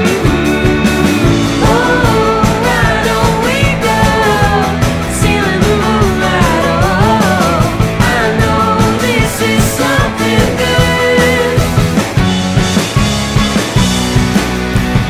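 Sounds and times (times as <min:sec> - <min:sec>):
rock song with singing: 0:00.0 - 0:15.0
steady drum beat: 0:00.0 - 0:15.0.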